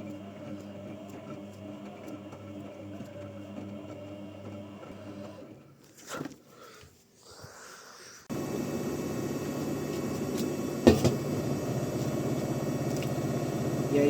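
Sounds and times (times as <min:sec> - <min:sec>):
washing machine humming: 0:00.0 - 0:05.8, 0:08.3 - 0:14.0.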